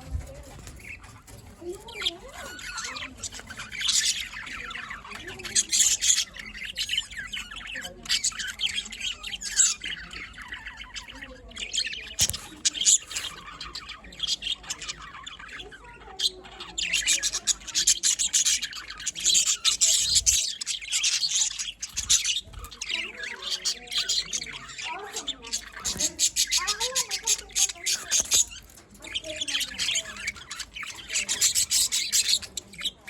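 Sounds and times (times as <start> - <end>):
budgerigars chattering: 0.0 - 33.0.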